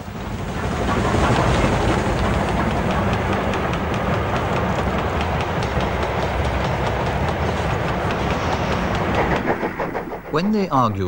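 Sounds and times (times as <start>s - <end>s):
train rumbling: 0.0s - 11.0s
wheels clicking over rail joints: 0.3s - 10.4s.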